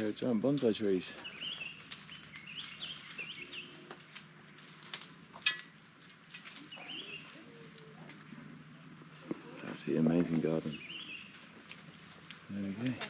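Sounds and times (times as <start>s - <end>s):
small birds chirping: 0.0s - 8.3s, 9.5s - 13.0s.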